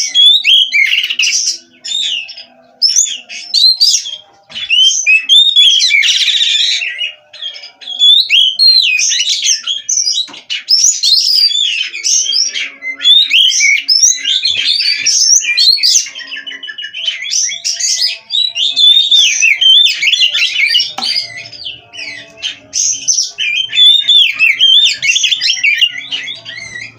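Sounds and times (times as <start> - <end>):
bird singing whistled phrases: 0.0 - 26.9.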